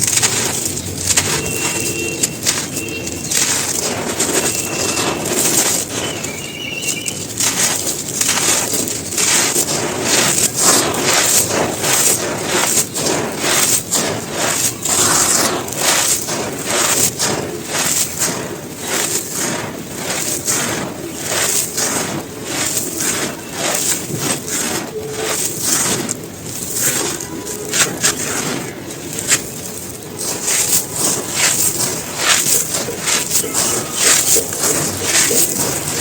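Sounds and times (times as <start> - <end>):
dry cones being crushed: 0.0 - 36.0.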